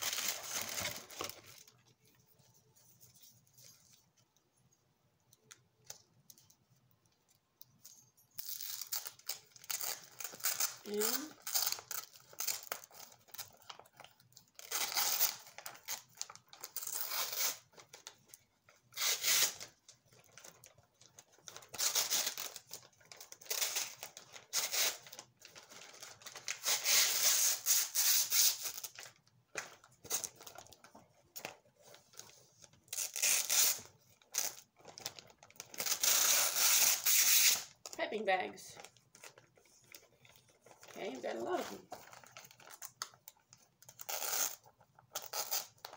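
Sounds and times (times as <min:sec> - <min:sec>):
plastic bags crinkling and tearing: 0:00.0 - 0:01.8, 0:08.4 - 0:45.9.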